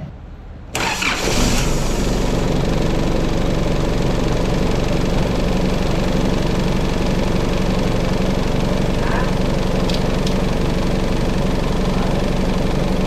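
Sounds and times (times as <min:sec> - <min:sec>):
diesel engine idling: 0:00.8 - 0:13.0.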